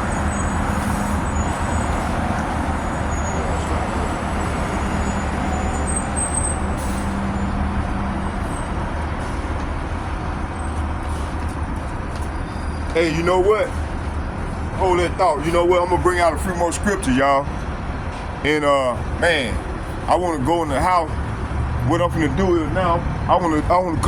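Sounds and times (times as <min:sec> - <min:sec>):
road vehicle rumble: 0:00.0 - 0:24.0.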